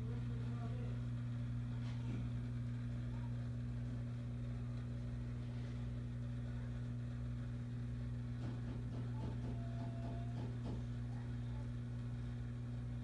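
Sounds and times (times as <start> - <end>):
aquarium pump motor humming: 0.0 - 13.0.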